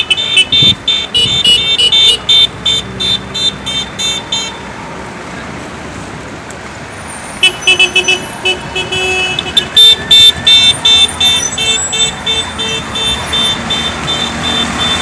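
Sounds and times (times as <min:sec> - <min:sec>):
car horns honking: 0:00.0 - 0:04.6, 0:07.3 - 0:15.0.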